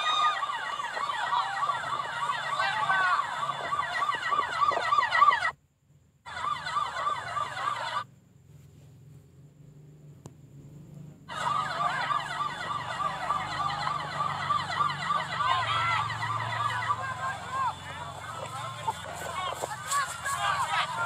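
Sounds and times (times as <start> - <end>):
gliding siren: 0.0 - 5.6, 6.3 - 8.0, 11.2 - 21.0
siren yelping: 0.0 - 5.6, 6.3 - 8.1, 11.3 - 21.0
faint low hum: 0.0 - 21.0.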